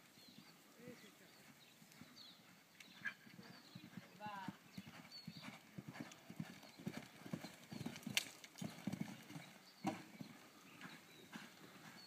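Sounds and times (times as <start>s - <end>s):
horse hooves cantering on sand: 0.0s - 12.0s.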